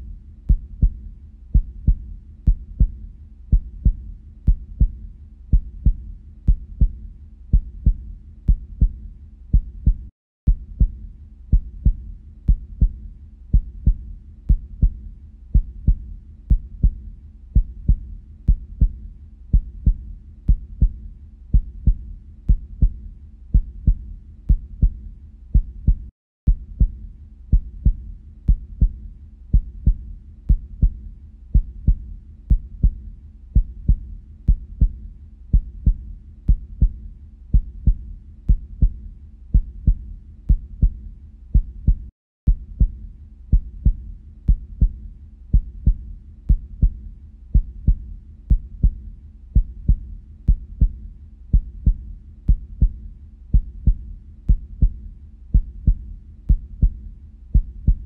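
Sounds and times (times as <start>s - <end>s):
heartbeat: 0.0s - 58.0s.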